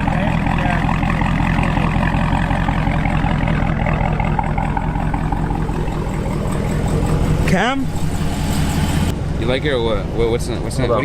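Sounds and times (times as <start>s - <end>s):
car engine deep rumble: 0.0s - 11.0s.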